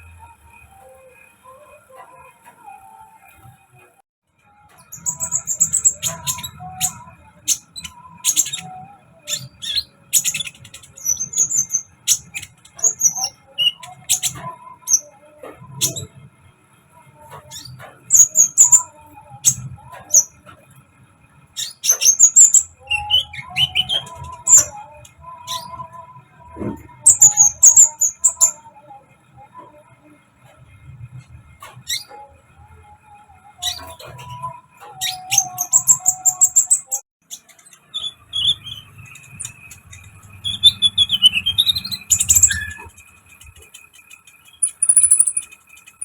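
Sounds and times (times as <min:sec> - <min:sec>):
songbird chirping and trilling: 0:00.0 - 0:03.9, 0:04.5 - 0:46.0.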